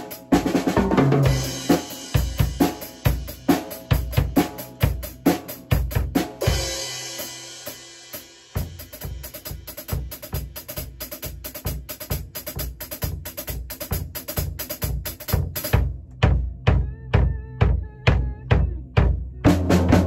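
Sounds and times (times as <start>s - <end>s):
kick and snare drums: 0.0s - 7.3s, 8.5s - 20.0s
drum beat with cymbal ticks: 0.0s - 20.0s.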